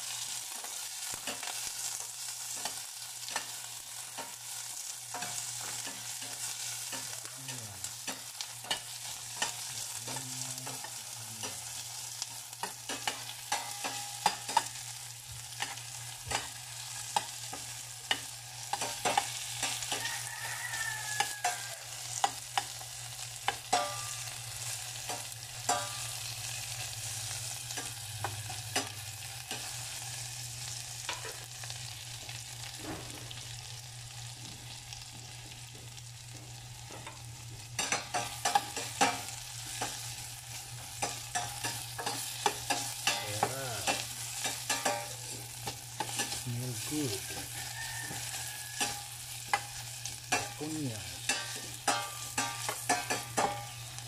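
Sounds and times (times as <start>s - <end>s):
onions sizzling in a pan: 0.0s - 54.0s
spoon scraping a pan: 0.2s - 30.1s, 37.8s - 54.0s.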